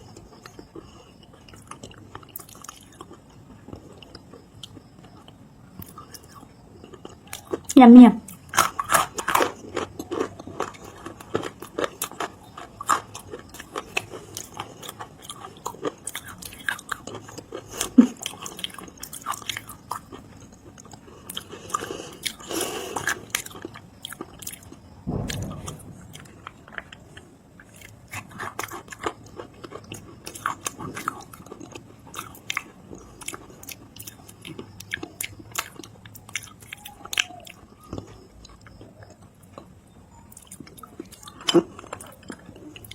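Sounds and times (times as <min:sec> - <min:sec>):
chewing crunchy dry clay: 0:00.0 - 0:42.9.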